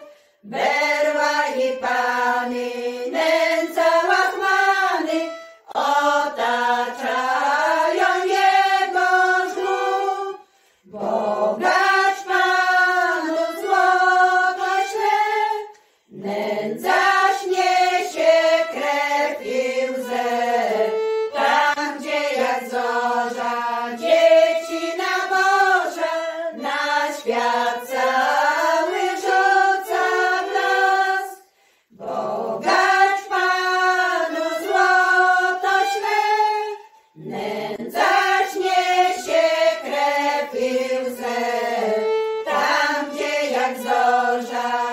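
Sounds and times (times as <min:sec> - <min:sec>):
violin accompaniment: 0:00.0 - 0:44.9
women's choir singing a carol: 0:00.0 - 0:44.9.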